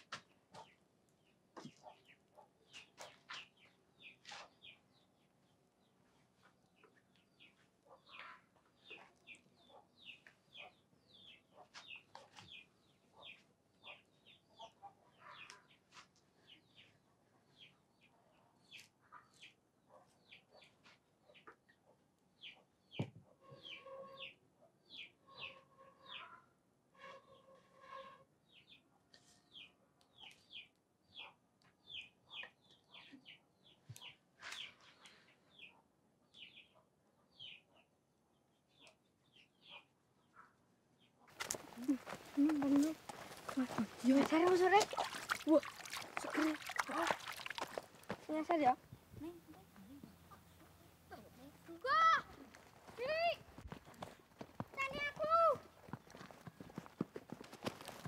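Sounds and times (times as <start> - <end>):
small birds chirping: 0.0 - 26.5, 28.4 - 58.0.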